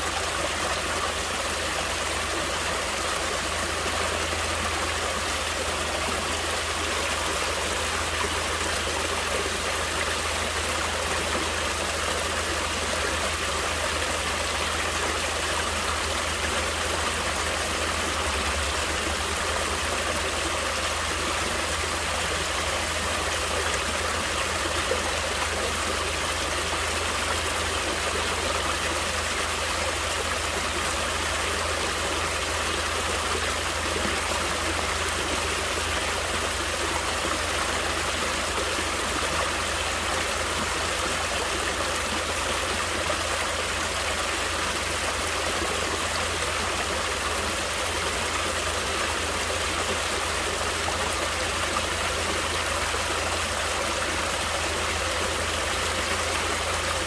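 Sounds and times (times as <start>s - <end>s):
stream water running over rocks: 0.0s - 57.0s.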